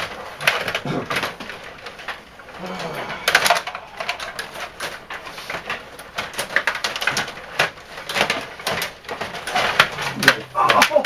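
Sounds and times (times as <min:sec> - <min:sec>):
table hockey game clicking: 0:00.0 - 0:11.0.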